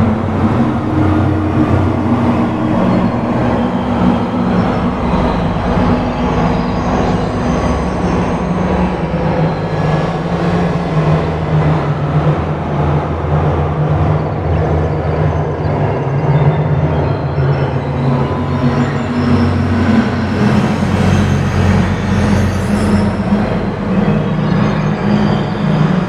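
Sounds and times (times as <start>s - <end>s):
rumbling electronic drone: 0.0s - 26.0s.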